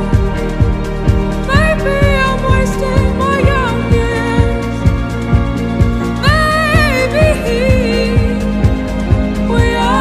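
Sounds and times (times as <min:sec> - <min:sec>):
pop song melody: 0:00.0 - 0:10.0.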